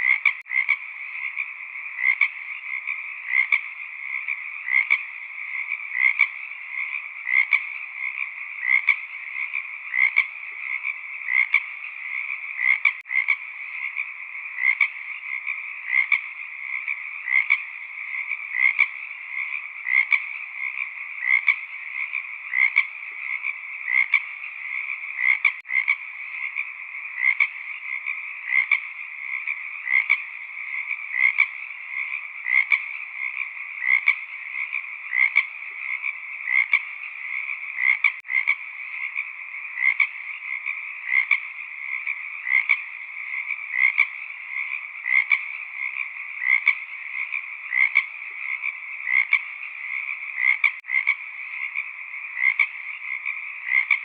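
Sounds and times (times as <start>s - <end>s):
frog chorus trilling: 0.0s - 54.0s
loud frog call: 0.0s - 54.0s.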